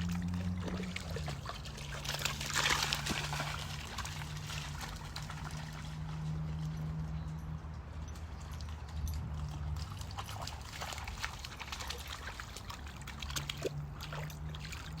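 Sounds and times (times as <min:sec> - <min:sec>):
dog splashing through water: 0:00.0 - 0:06.7, 0:09.4 - 0:15.0
creek water trickling: 0:00.0 - 0:15.0.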